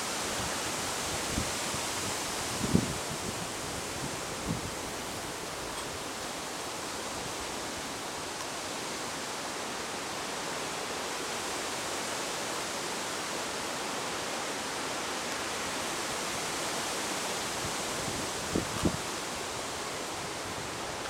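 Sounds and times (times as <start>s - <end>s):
breeze through reeds and trees: 0.0s - 21.0s.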